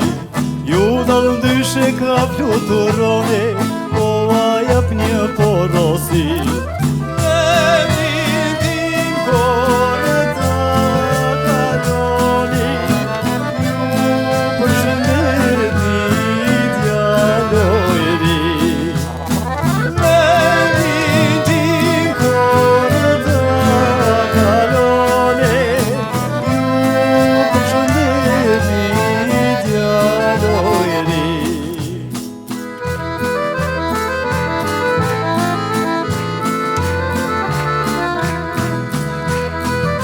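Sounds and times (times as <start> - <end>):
folk melody with vibrato: 0.0 - 40.0
steady drum beat: 0.0 - 40.0.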